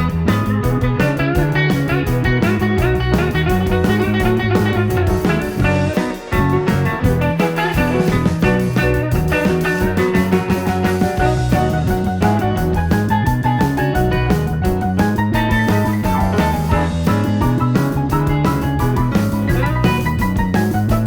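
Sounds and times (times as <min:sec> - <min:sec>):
rock music with plucked guitar: 0:00.0 - 0:21.0.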